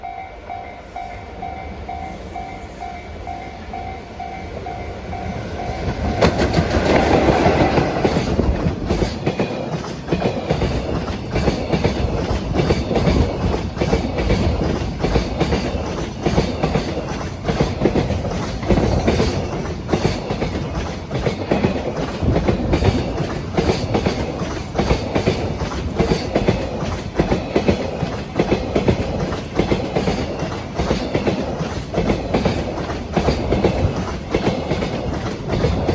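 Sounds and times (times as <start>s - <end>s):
electric locomotive passing: 0.0s - 35.9s
train wheels clacking on rail joints: 1.4s - 35.9s.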